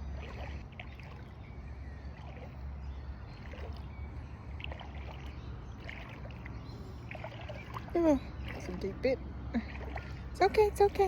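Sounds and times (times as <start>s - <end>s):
small splashes: 0.0s - 11.0s
water sloshing from wading: 0.0s - 11.0s.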